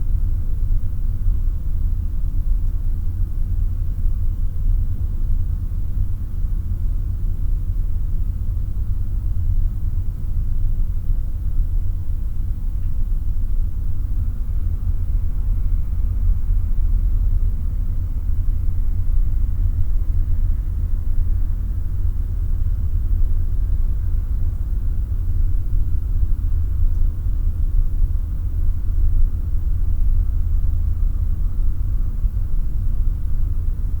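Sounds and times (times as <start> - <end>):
faint steady hum: 0.0 - 34.0
low room rumble: 0.0 - 34.0.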